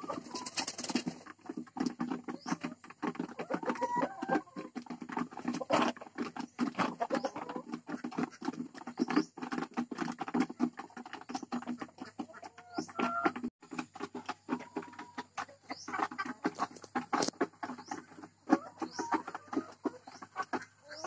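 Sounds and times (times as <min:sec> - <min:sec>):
hens clucking and calling: 0:00.0 - 0:21.0.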